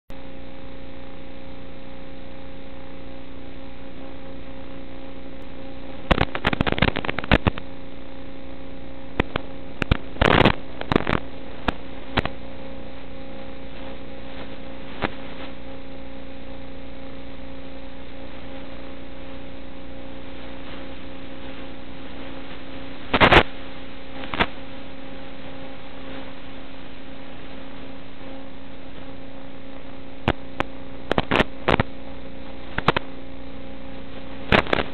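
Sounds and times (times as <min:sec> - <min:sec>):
electrical hum: 0:00.1 - 0:34.9
static crackling bursts: 0:00.1 - 0:34.9.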